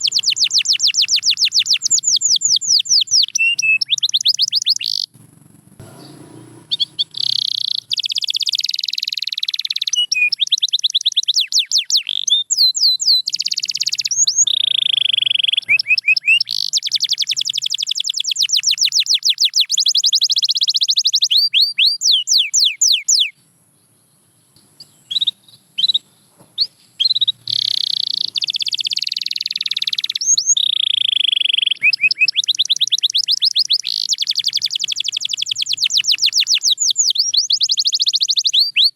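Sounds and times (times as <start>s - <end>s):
short bird chirps: 0.0s - 5.1s, 5.8s - 23.4s, 24.8s - 38.9s
canary singing trills: 0.0s - 38.9s.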